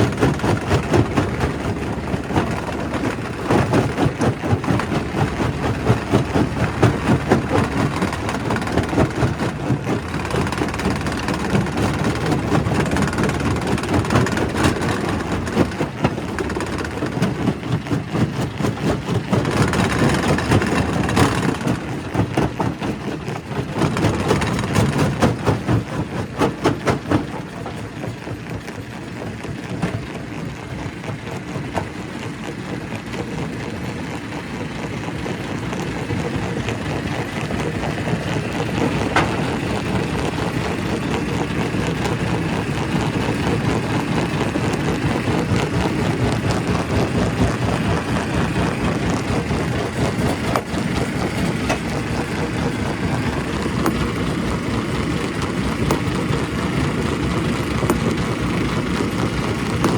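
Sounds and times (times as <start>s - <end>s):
rock crusher rumbling: 0.0s - 59.9s.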